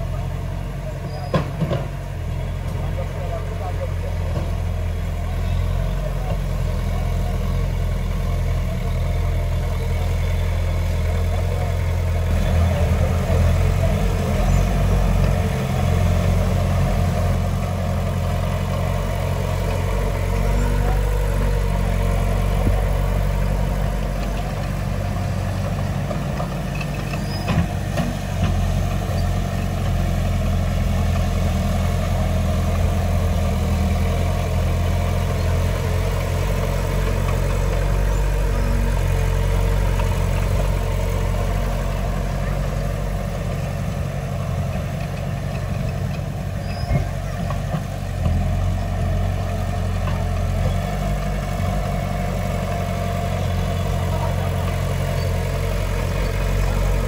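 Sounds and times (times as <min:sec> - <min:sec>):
diesel earthmoving machine droning: 0:00.0 - 0:57.0.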